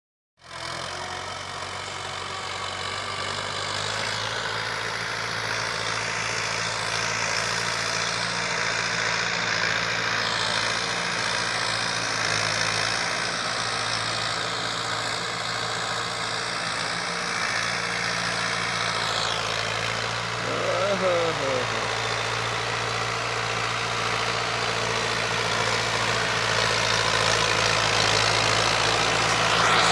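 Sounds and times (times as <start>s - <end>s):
tractor diesel engine running: 0.5s - 29.9s.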